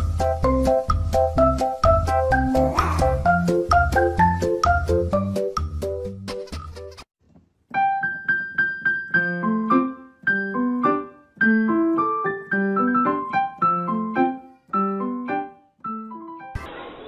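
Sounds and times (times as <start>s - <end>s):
piano tune: 0.0s - 6.2s, 7.7s - 16.7s.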